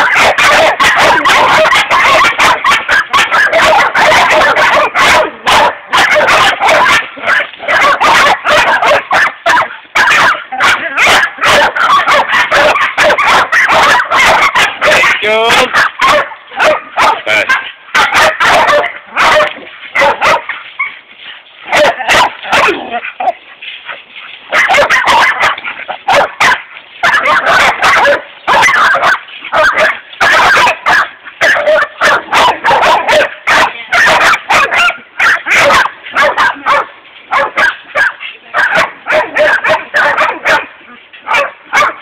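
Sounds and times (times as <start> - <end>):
dogs barking rapidly: 0.0 - 42.0.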